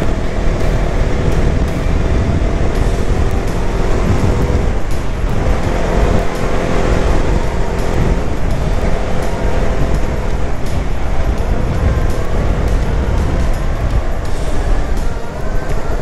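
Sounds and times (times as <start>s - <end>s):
motorcycle engine at speed: 0.0s - 16.0s
wind rumble on microphone: 0.0s - 16.0s.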